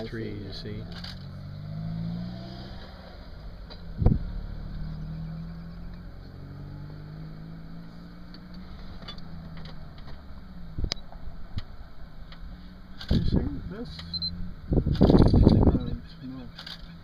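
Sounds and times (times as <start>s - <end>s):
vehicle engine idling: 0.0s - 1.8s, 2.8s - 17.0s.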